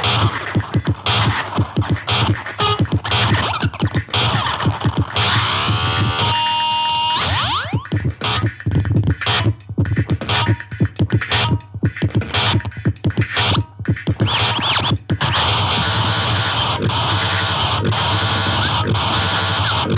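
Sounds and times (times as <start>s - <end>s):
experimental electronic noise music: 0.0s - 19.9s.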